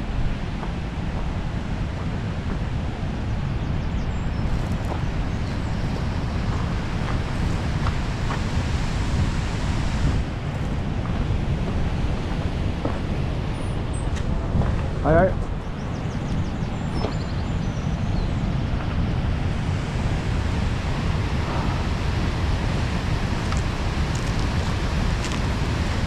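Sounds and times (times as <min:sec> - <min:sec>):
waterfall roaring: 0:00.0 - 0:15.0, 0:18.8 - 0:26.0
wind buffeting microphone: 0:00.0 - 0:26.0.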